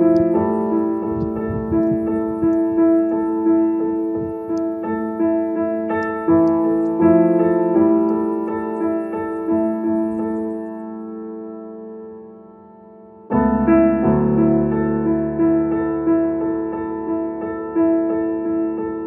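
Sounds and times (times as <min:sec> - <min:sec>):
slow piano notes: 0:00.0 - 0:19.0.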